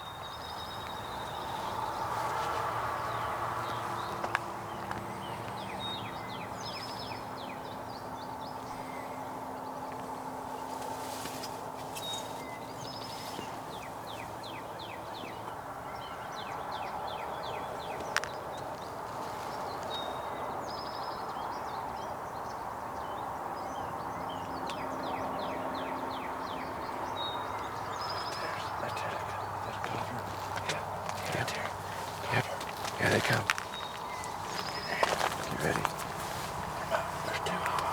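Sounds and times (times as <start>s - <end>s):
woods background hum: 0.0s - 22.1s, 24.0s - 37.9s
songbird singing: 0.0s - 37.9s.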